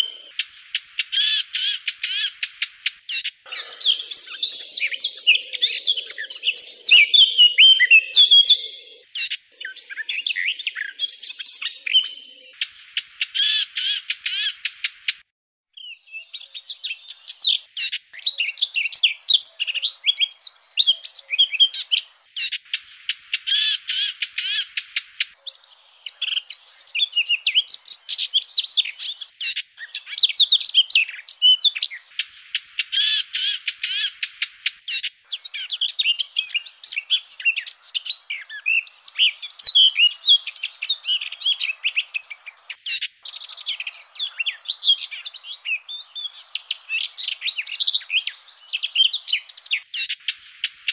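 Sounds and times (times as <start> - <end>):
bird warbling and trilling: 0.0 - 15.2, 15.8 - 50.9.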